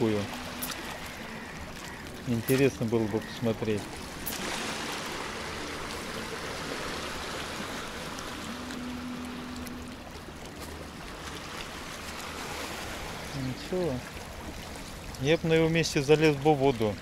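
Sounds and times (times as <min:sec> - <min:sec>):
water washing over rocks: 0:00.0 - 0:17.0.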